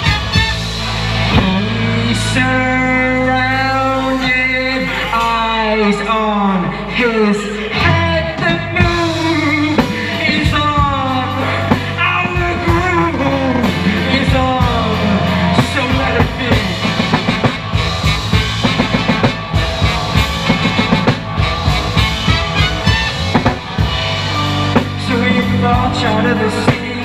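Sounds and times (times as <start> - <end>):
drum kit beating: 0.0 - 5.1, 7.8 - 27.0
live rock band playing: 0.0 - 27.0.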